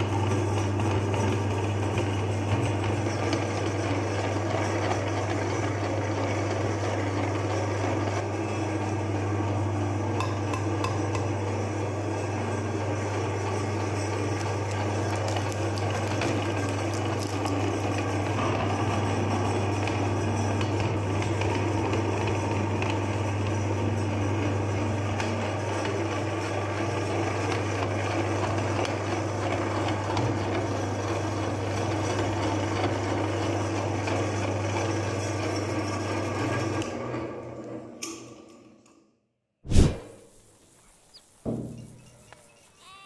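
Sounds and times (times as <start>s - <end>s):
electric meat grinder running: 0.0s - 38.0s.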